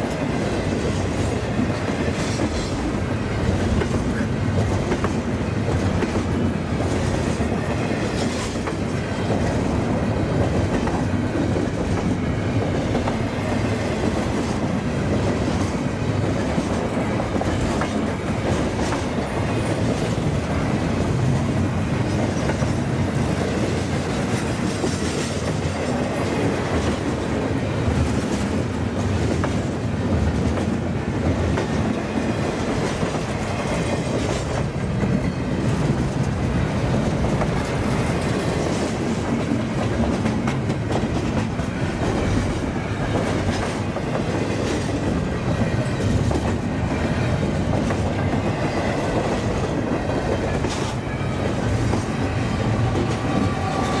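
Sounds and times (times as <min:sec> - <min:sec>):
freight train wheels clattering on rails: 0:00.0 - 0:54.0.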